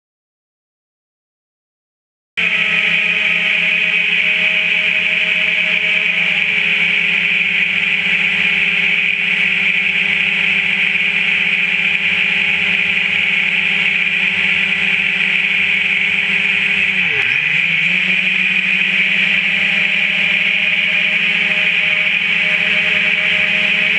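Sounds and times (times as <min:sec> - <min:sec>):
drone motors whining: 0:02.4 - 0:23.9.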